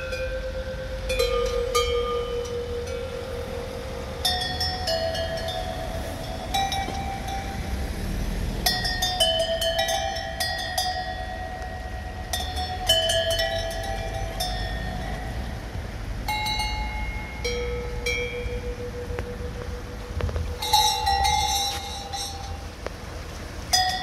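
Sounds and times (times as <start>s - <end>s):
bell-like chimes: 0.0s - 22.8s.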